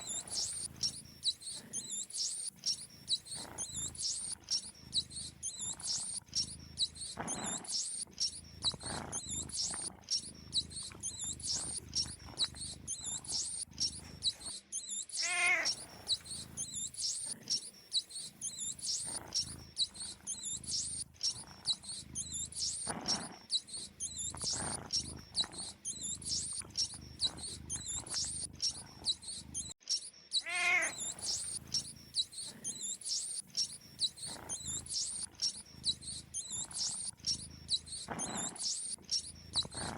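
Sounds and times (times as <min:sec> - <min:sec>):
mice squeaking: 0:00.0 - 0:39.9.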